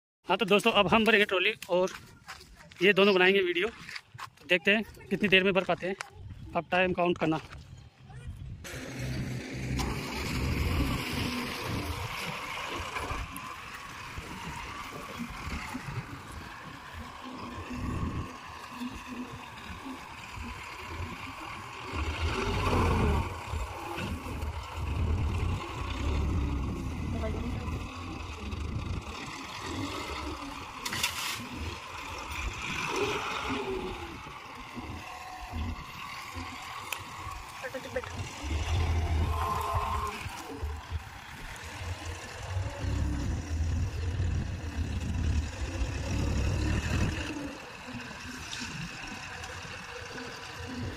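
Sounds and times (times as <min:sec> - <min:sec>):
tractor diesel engine under load: 0:08.5 - 0:50.9.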